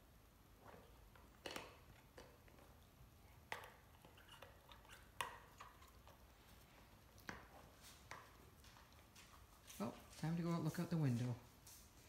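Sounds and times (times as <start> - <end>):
dog chewing rubber ball: 0.5 - 10.7.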